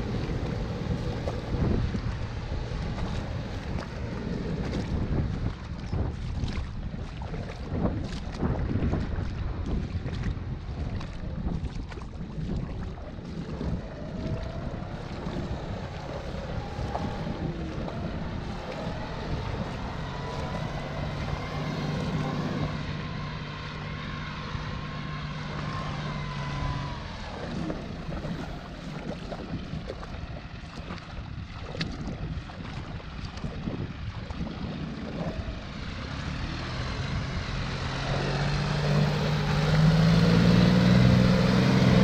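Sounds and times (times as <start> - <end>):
distant tractor engine drone: 0.0 - 11.6, 12.9 - 42.0
wind buffeting microphone: 0.0 - 42.0.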